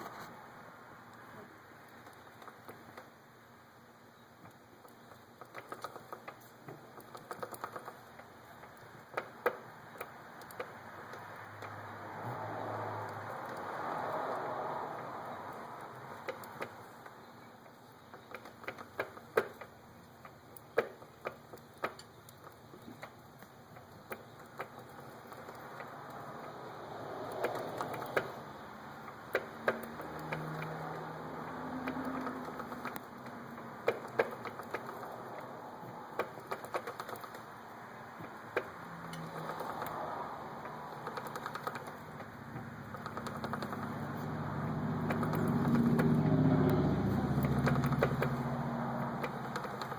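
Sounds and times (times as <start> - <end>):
motorcycle chain ticking: 4.8 - 17.2, 18.1 - 49.9.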